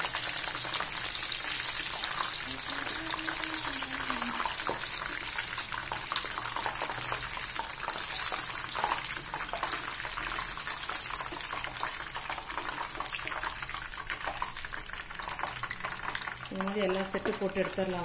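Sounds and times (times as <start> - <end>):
deep-frying oil sizzling and popping: 0.0 - 18.0.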